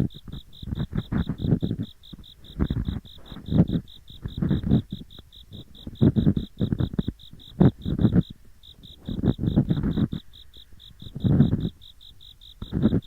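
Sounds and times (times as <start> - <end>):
ear pick scraping: 0.0 - 13.0
insects chirping: 0.0 - 13.0.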